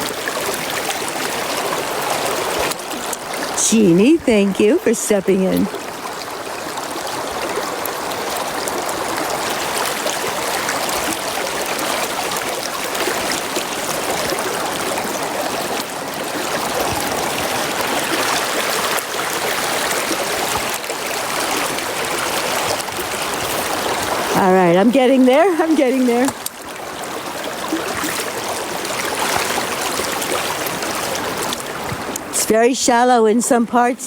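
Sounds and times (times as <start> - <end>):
brook flowing water: 0.0 - 34.0.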